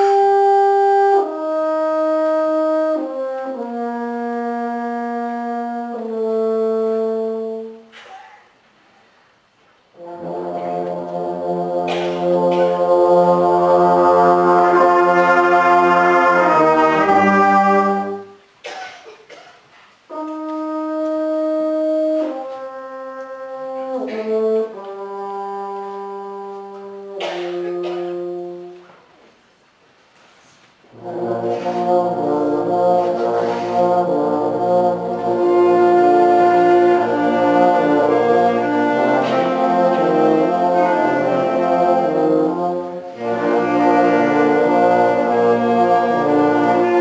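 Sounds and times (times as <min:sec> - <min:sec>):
brass sustained notes: 0:00.0 - 0:08.0, 0:09.9 - 0:18.8, 0:20.1 - 0:29.1, 0:30.8 - 0:47.0
wind band playing: 0:00.0 - 0:08.0, 0:09.9 - 0:18.8, 0:20.1 - 0:29.4, 0:30.8 - 0:47.0.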